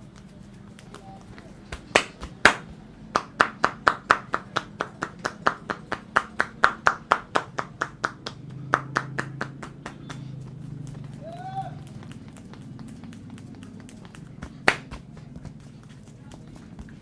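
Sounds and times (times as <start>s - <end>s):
hands clapping during head massage: 0.0s - 17.0s.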